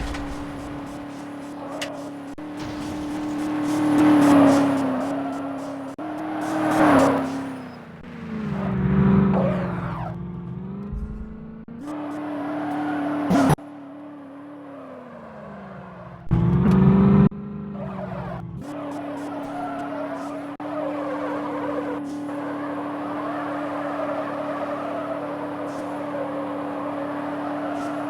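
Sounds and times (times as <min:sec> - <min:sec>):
sports car engine revving: 0:00.0 - 0:28.0.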